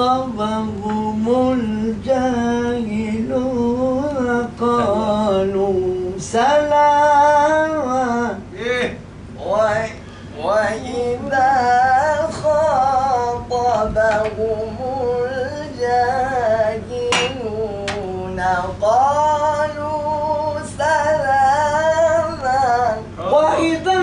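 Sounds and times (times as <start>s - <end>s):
man chanting melodic recitation: 0.0s - 24.0s.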